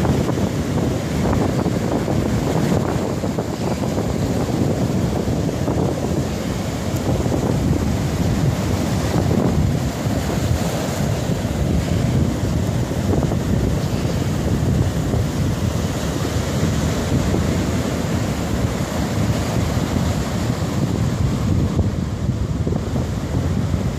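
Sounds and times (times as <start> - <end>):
surf breaking on sand: 0.0 - 23.9
wind on microphone: 0.0 - 23.9.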